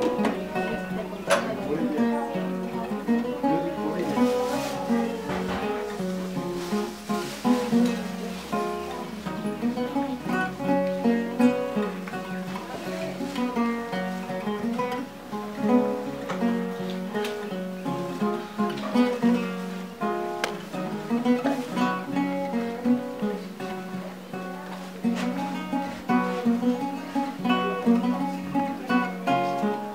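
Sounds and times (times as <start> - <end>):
acoustic guitar plucked and strummed: 0.0 - 29.9.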